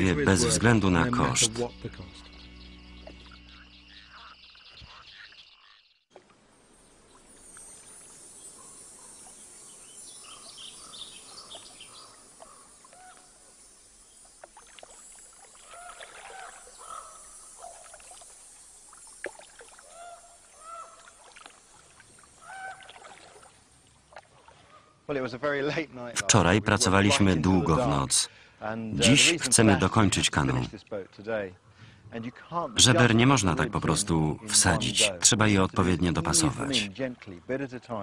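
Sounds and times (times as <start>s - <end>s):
birds chirping: 0.0s - 6.1s, 6.9s - 17.9s, 19.8s - 22.9s, 26.2s - 30.8s, 31.5s - 37.4s
steady outdoor hiss: 0.0s - 38.0s.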